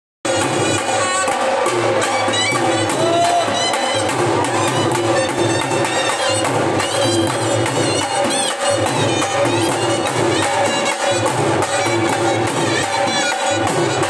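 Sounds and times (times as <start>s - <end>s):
barrel drums beating fast rhythm: 0.3s - 14.0s
wind instrument melody: 0.3s - 14.0s.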